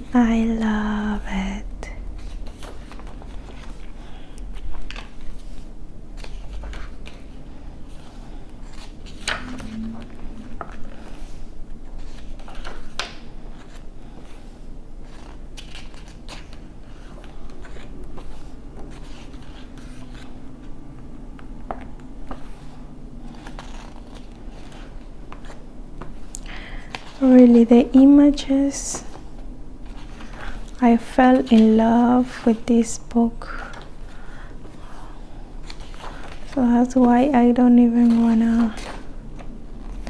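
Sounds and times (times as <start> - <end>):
book pages turning: 0.0 - 40.0.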